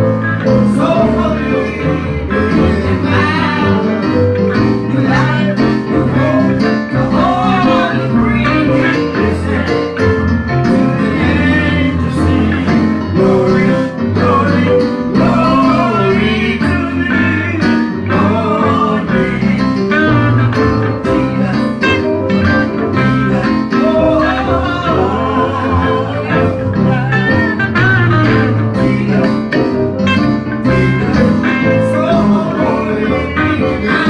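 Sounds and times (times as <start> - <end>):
people singing: 0.0 - 27.4, 28.3 - 29.9, 30.6 - 34.0
bass guitar: 0.0 - 34.0
drums: 0.0 - 34.0
electric guitar: 0.0 - 34.0.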